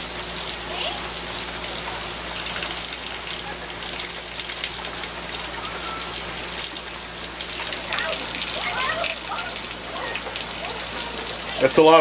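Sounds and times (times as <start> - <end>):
steady rain splashing: 0.0 - 12.0.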